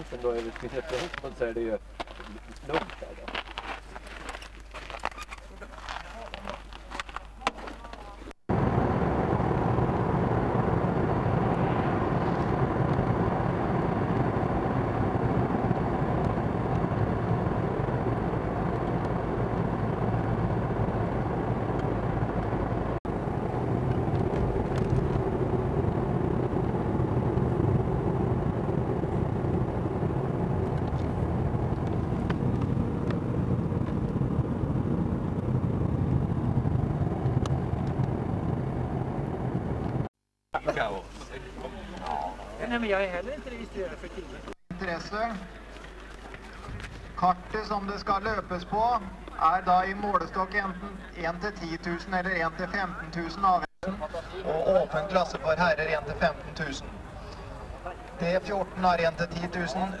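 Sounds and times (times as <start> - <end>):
car engine and tyre noise: 0.0 - 40.1, 44.2 - 60.0.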